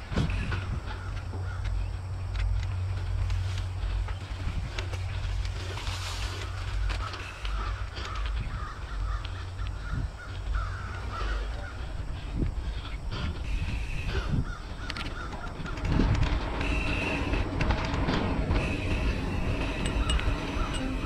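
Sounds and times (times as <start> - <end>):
wind rumble on microphone: 0.0 - 21.0
birds calling: 0.1 - 21.0.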